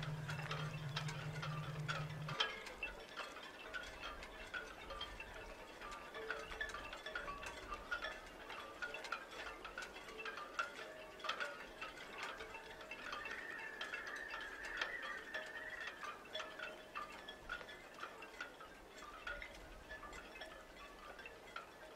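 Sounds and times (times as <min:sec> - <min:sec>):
faint wind chimes tinkling: 0:00.0 - 0:21.9.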